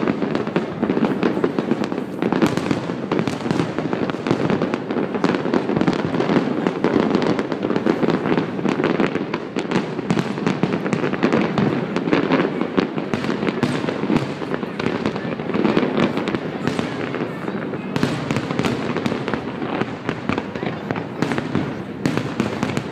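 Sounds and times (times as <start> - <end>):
fireworks bangs and crackling: 0.0 - 22.9.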